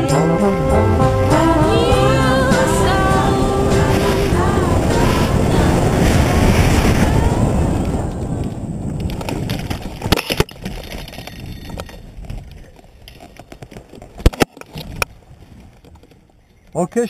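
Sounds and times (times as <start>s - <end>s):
wind rushing over microphone: 0.0s - 16.1s.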